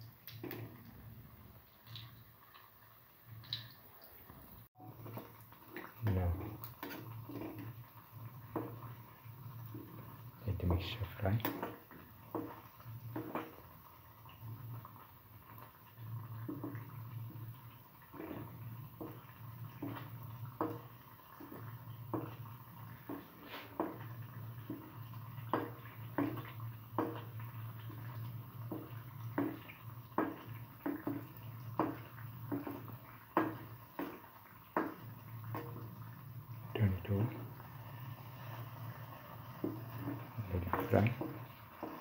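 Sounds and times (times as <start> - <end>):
patties sizzling in oil: 0.0 - 42.0.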